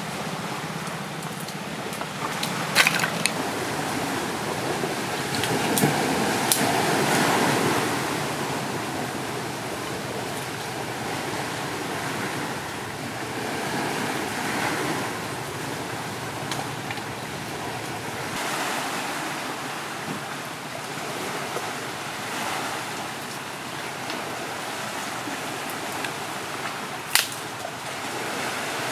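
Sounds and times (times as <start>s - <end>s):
waves washing on rocky shore: 0.0s - 28.9s.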